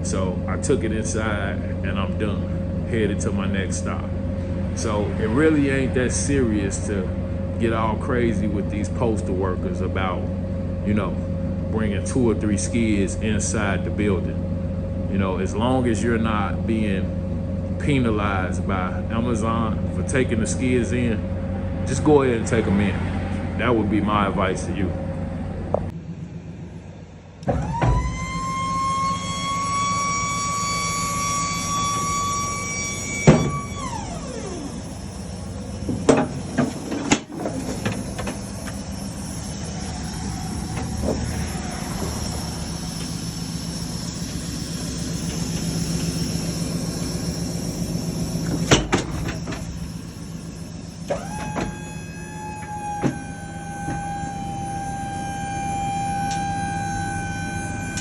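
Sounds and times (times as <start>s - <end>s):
high whine: 0.0s - 58.0s
vehicle engine running: 0.0s - 58.0s.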